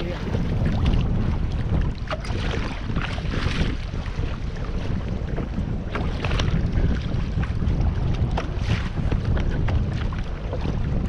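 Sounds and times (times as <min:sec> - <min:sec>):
water splashing against hull: 0:00.0 - 0:11.0
wind buffeting microphone: 0:00.0 - 0:11.0.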